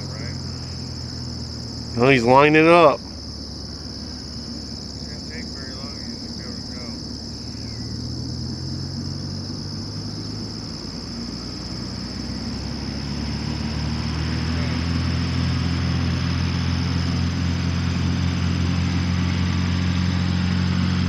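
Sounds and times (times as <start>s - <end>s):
distant plane engine and propeller: 0.0s - 21.0s.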